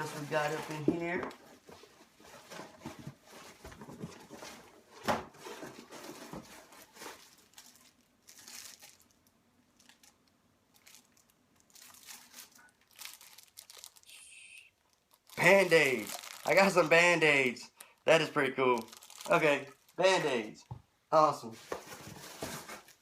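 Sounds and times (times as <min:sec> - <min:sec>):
packaging rustling and crinkling: 0:00.0 - 0:20.5, 0:21.6 - 0:23.0.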